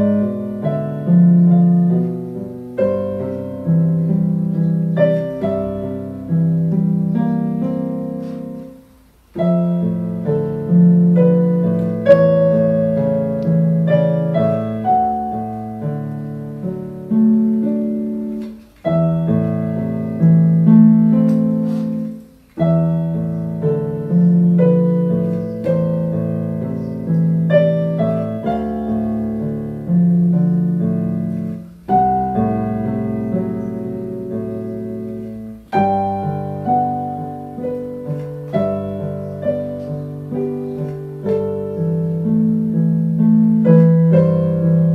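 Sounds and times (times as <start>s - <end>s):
electronic keyboard piano melody: 0.0s - 44.9s.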